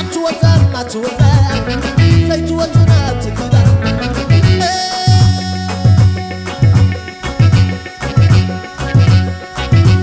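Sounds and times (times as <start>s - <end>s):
drum kit and bass beat: 0.0s - 10.0s
keyboard: 0.0s - 10.0s
saxophone: 0.0s - 10.0s.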